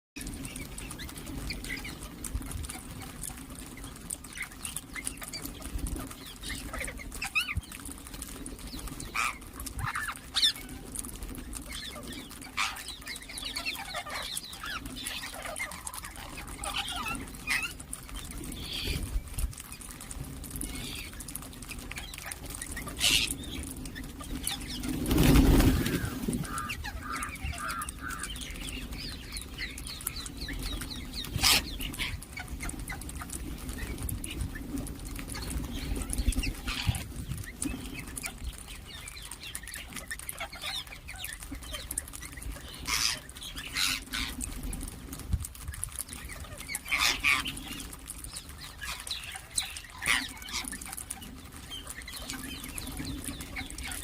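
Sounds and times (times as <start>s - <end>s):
parakeets chirping and calling: 0.2s - 44.8s, 45.6s - 54.0s.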